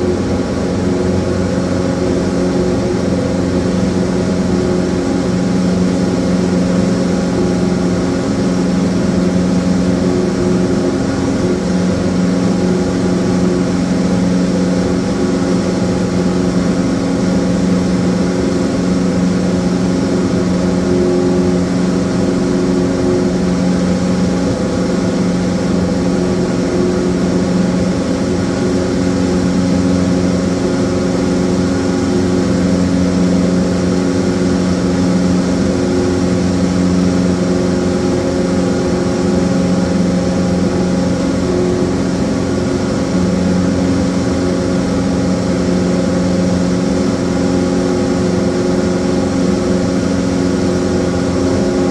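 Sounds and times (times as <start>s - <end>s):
small plane engine droning: 0.0s - 51.9s.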